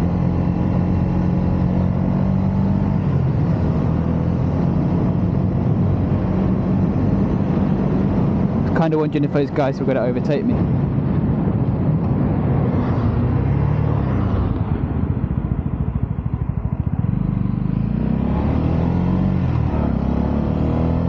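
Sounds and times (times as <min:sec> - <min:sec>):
motorcycle engine revving: 0:00.0 - 0:08.8, 0:12.4 - 0:21.0.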